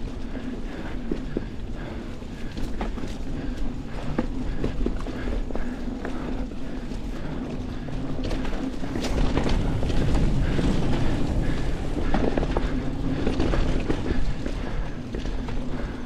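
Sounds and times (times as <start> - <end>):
bike rattling and clicking: 0.0 - 16.0
tyres rumbling on dirt: 0.0 - 16.0.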